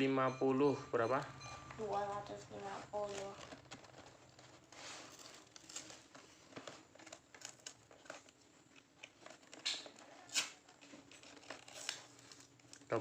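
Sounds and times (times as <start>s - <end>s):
packaging crinkling: 1.7s - 13.0s.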